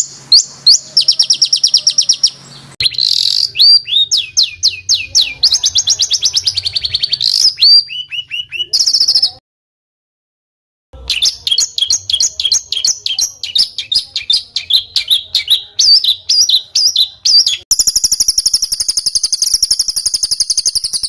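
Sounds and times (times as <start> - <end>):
songbird trills and whistles: 0.0 - 9.4, 11.0 - 21.0.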